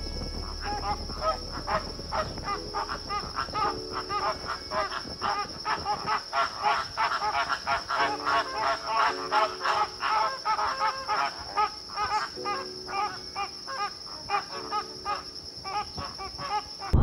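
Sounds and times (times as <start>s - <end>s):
flamingos honking: 0.0s - 17.0s.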